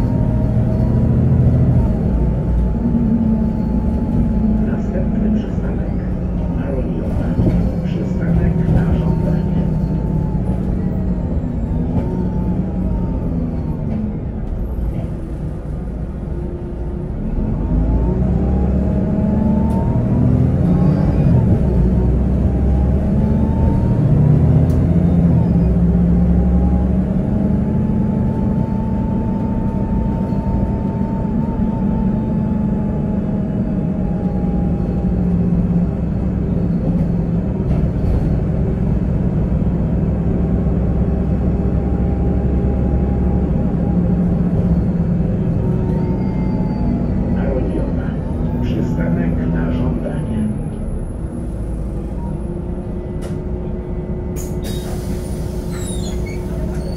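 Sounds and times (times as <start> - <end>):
bus diesel engine rumbling: 0.0 - 56.9.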